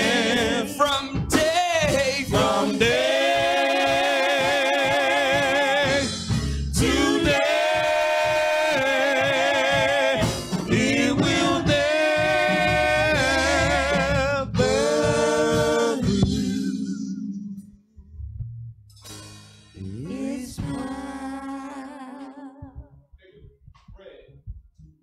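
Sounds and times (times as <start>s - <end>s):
slow gospel singing: 0.0s - 17.8s, 19.8s - 23.0s.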